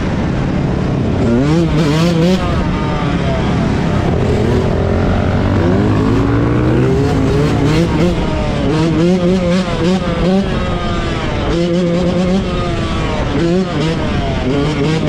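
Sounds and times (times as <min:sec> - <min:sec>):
off-road vehicle engines revving: 0:00.0 - 0:15.0.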